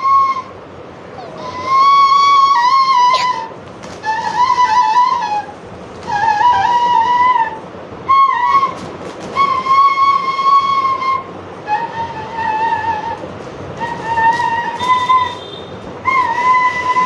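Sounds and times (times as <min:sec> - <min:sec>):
breathy bamboo flute notes: 0:00.0 - 0:00.6, 0:01.2 - 0:17.0.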